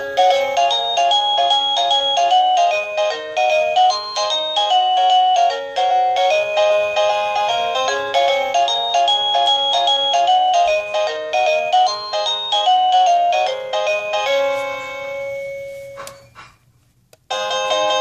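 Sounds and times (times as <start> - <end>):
electronic doorbell chime melody: 0.0 - 16.0, 17.3 - 18.0.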